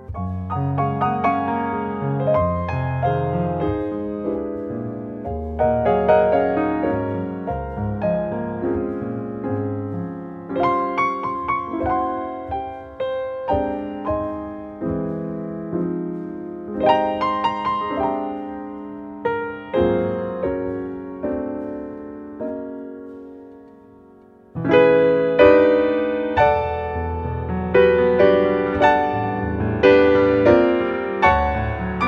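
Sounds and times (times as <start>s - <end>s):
slow solo piano music: 0.0s - 32.0s.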